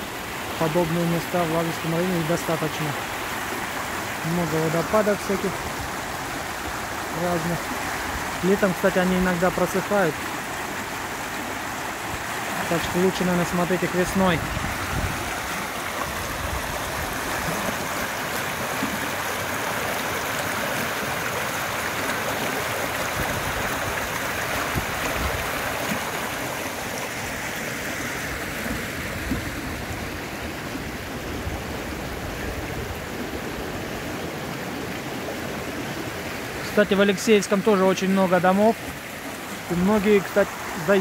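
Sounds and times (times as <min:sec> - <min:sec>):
stream rushing over stones: 0:00.0 - 0:41.0.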